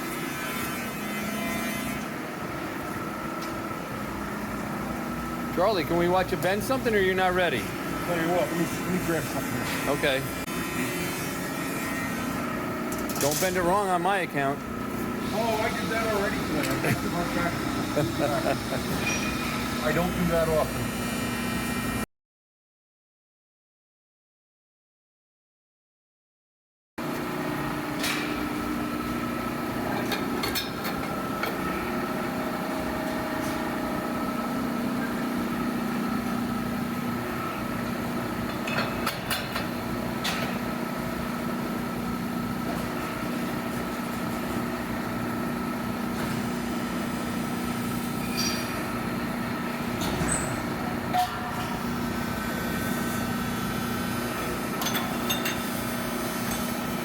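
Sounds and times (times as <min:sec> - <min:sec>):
shop machinery humming: 0:00.0 - 0:22.0, 0:27.0 - 0:57.0.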